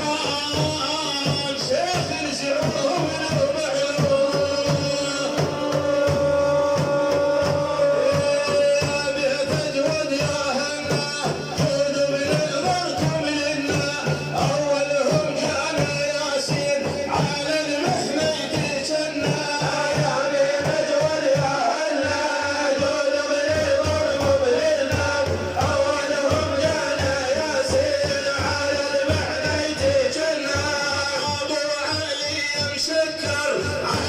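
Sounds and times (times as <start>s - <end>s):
man chanting devotional song: 0.0s - 34.0s
steady drum beat: 0.0s - 34.0s.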